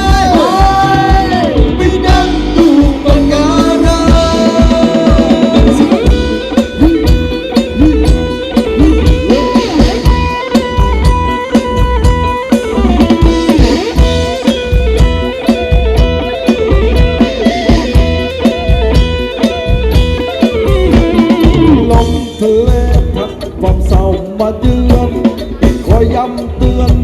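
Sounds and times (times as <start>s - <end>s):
drum kit and bass beat: 0.0s - 27.0s
electric guitar melody: 0.0s - 27.0s.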